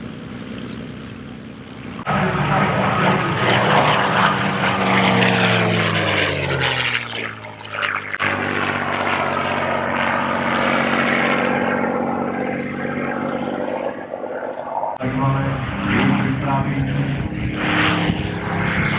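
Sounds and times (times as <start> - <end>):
propeller aircraft engine running: 0.0 - 18.9.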